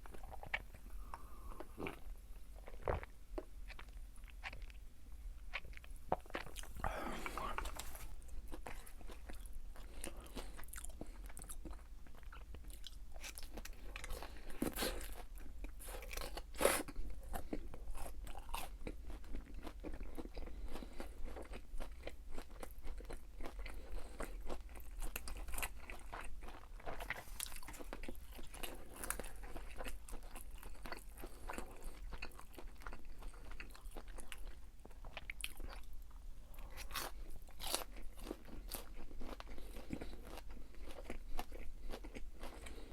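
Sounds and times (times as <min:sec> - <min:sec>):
person chewing crispy food: 0:00.0 - 0:42.9.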